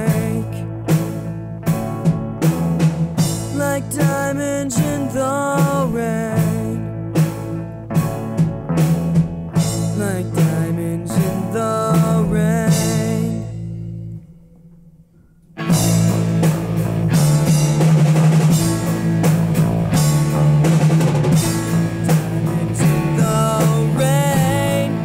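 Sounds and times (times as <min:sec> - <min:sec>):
instrumental rock band: 0:00.0 - 0:25.0.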